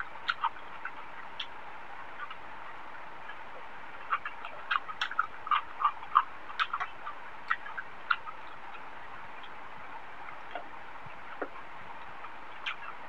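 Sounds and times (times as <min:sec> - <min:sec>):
wet chewing mouth clicks: 0:00.0 - 0:01.6, 0:02.2 - 0:02.4, 0:03.2 - 0:09.6, 0:10.3 - 0:13.0.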